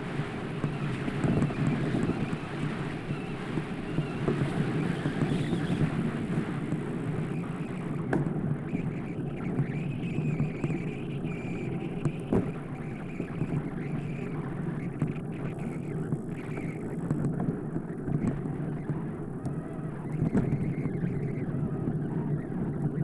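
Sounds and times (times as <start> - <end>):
bicycle tyres rolling: 0.0 - 23.0
wind buffeting microphone: 0.0 - 23.0.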